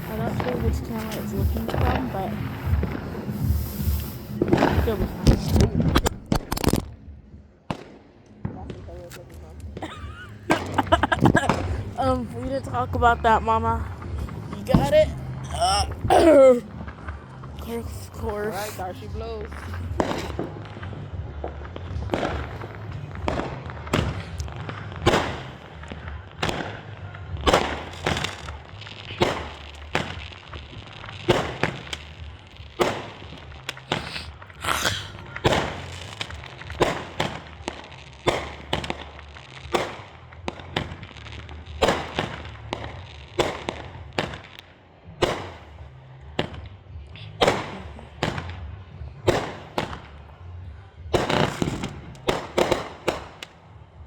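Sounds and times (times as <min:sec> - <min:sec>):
fireworks banging and popping: 0:00.0 - 0:54.0
fireworks crackling: 0:00.0 - 0:54.0.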